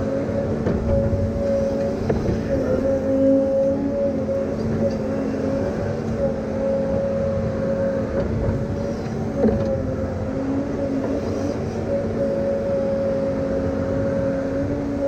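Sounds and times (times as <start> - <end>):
diesel engine running: 0.0 - 15.0
engine whine: 0.0 - 15.0.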